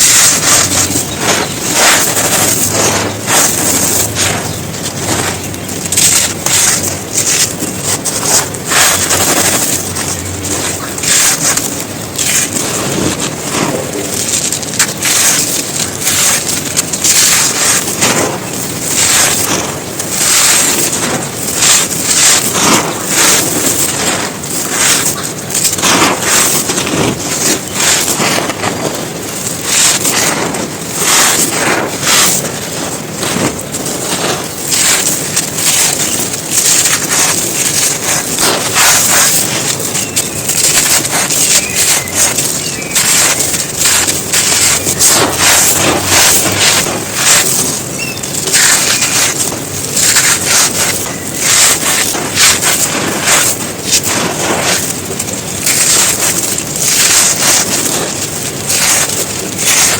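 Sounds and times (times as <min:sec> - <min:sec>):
dry chunks crushed by hand: 0:00.0 - 0:59.9.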